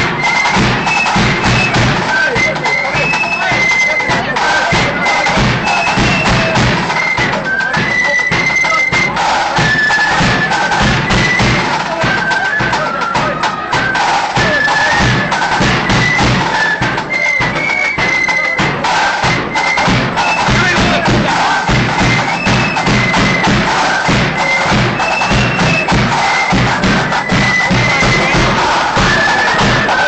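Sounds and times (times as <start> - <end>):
flutes playing high melody: 0.0 - 30.0
snare and bass drumming: 0.0 - 30.0.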